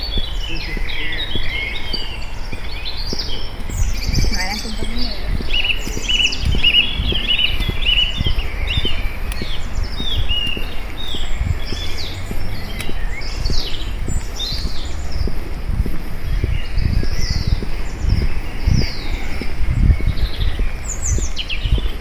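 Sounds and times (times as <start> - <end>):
birds chirping and singing: 0.0 - 22.0.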